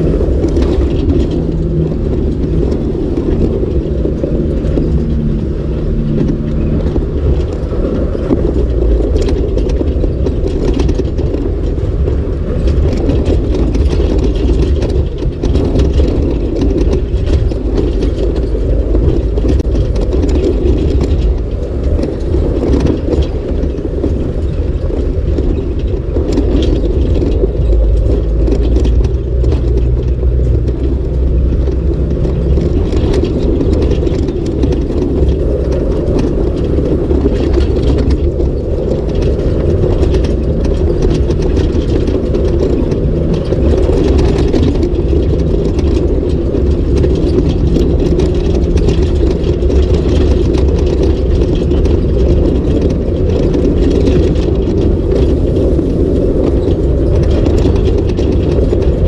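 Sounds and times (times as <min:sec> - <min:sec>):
clicks and rattles in cabin: 0:00.0 - 0:59.0
engine and tyres rumbling on gravel: 0:00.0 - 0:59.0.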